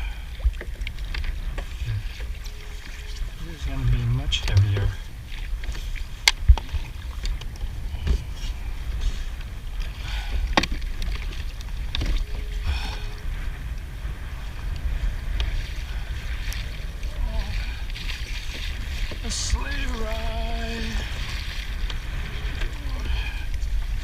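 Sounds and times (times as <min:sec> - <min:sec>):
water and wind rumble: 0:00.0 - 0:24.0.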